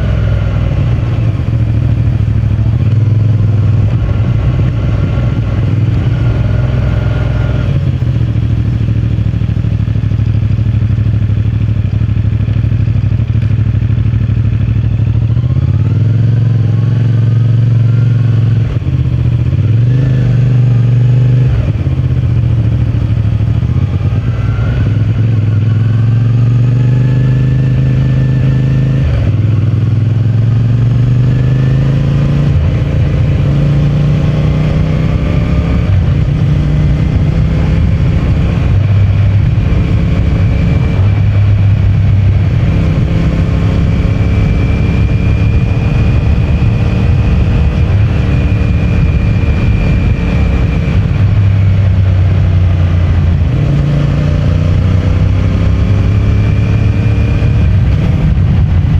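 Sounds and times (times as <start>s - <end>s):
motorcycle engine and exhaust: 0.0s - 58.9s.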